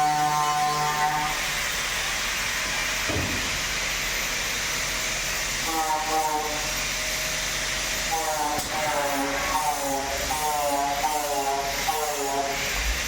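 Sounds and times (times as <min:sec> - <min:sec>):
vacuum forming machine hissing: 0:00.0 - 0:13.0.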